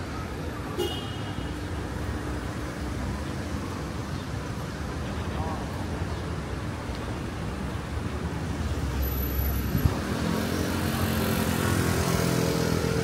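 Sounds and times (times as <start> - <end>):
passing motor vehicles: 0.0 - 13.0.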